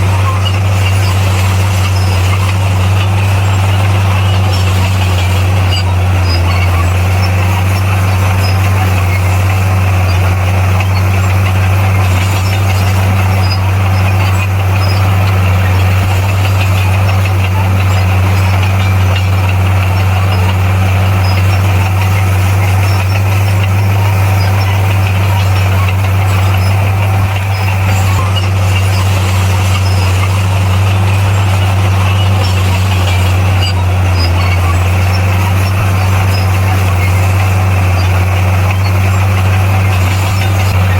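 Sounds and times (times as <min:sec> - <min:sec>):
diesel engine droning: 0:00.0 - 0:40.9
noisy rattle: 0:00.0 - 0:40.9.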